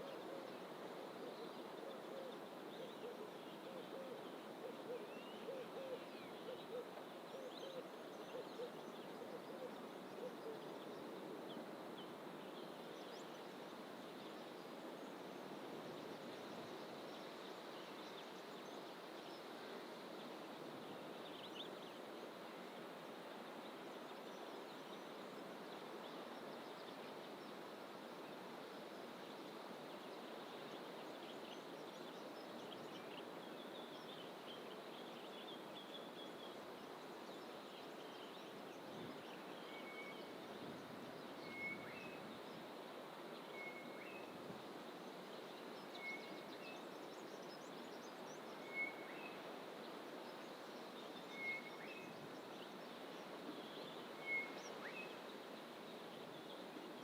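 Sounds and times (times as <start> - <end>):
rushing bush ambience: 0.0 - 57.0.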